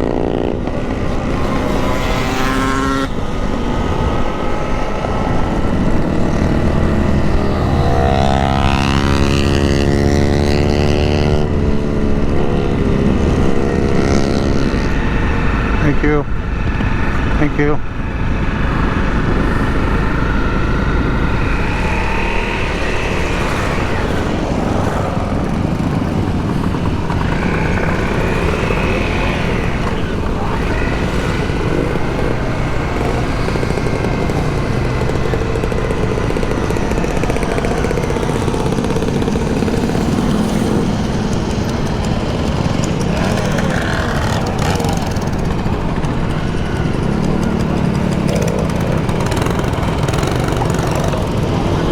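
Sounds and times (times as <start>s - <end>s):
motorcycle engine running: 0.0s - 51.9s
wind noise on microphone: 0.0s - 51.9s.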